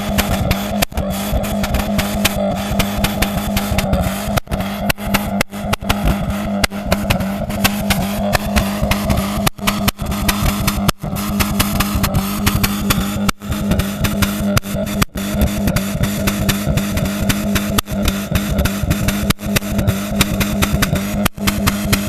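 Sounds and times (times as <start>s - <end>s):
engine exhaust humming: 0.0s - 22.0s
exhaust pops and crackles: 0.0s - 22.0s.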